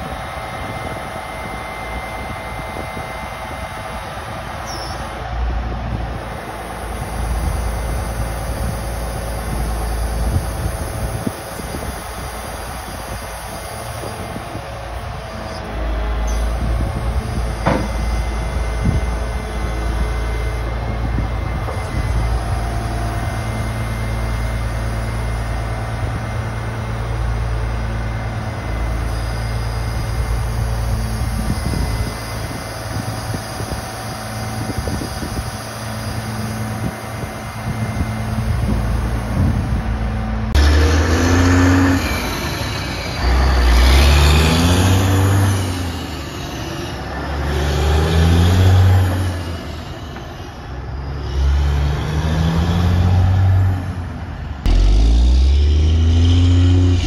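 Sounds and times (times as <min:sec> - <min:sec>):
diesel truck engine running: 0:00.0 - 0:49.6, 0:50.7 - 0:57.0
truck accelerating and shifting gears: 0:00.0 - 0:57.0.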